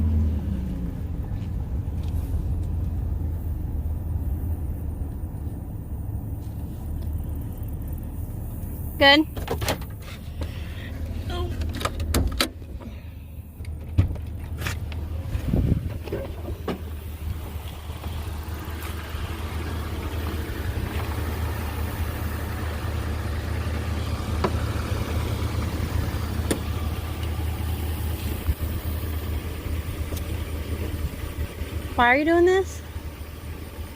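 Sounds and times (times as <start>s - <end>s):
vehicle engine humming: 0.0s - 33.9s.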